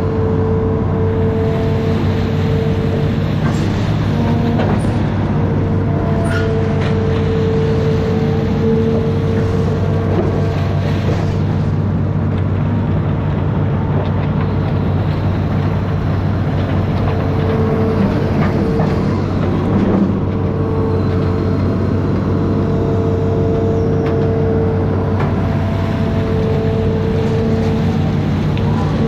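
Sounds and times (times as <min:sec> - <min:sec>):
diesel engine droning: 0:00.0 - 0:29.0
engine whine: 0:00.0 - 0:29.0.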